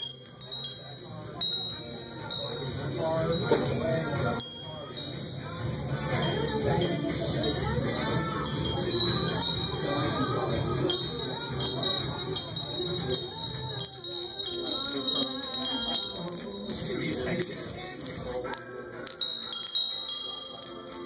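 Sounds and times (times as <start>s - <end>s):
lower tube chime rings: 0.0s - 21.0s
metal wind chimes tinkling: 0.0s - 21.0s.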